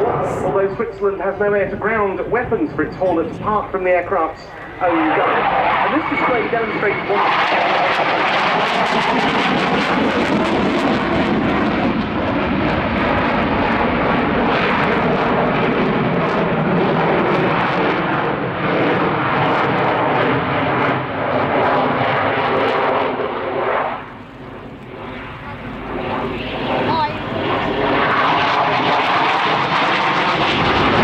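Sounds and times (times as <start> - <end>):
fighter jet engines roaring: 0.0 - 31.0.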